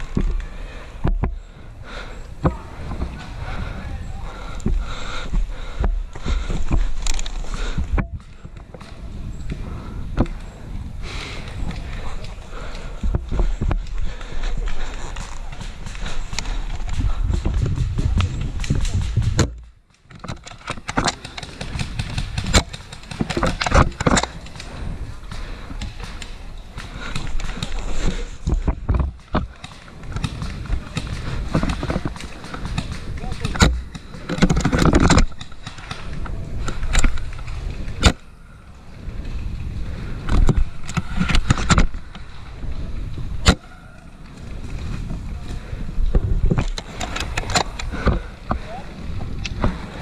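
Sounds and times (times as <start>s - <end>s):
low rumbling wind noise: 0.0s - 50.0s.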